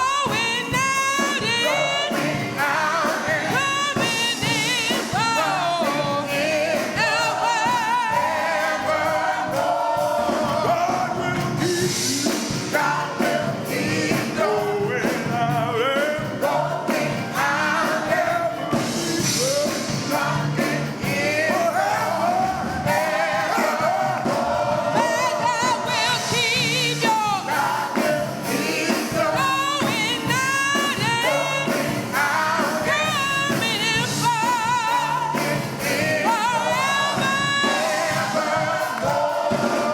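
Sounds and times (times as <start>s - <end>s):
choir and lead voice singing: 0.0s - 39.9s
instrumental accompaniment: 0.0s - 39.9s.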